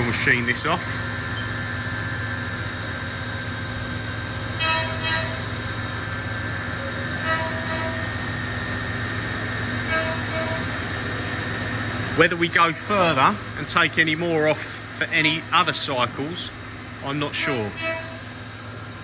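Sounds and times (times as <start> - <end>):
milling machine spindle whine: 0.0 - 19.0.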